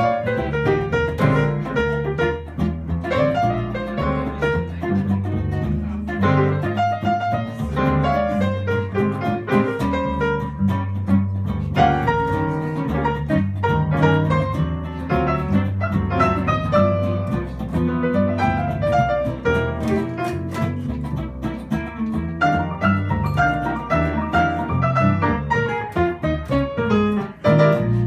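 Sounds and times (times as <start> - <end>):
jazz piano: 0.0 - 28.0
plucked double bass: 0.0 - 28.0.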